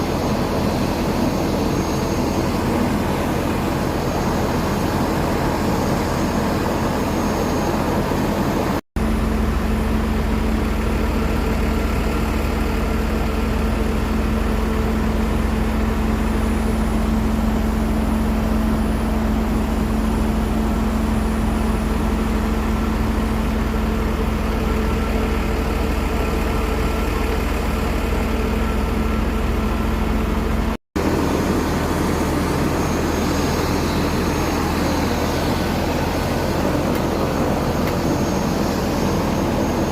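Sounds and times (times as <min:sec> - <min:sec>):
aircraft engines running: 0:00.0 - 0:39.9.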